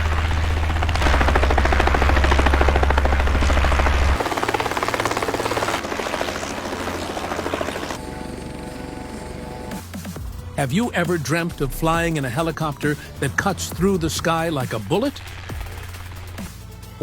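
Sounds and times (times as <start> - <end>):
helicopter rotors chopping: 0.0 - 17.0.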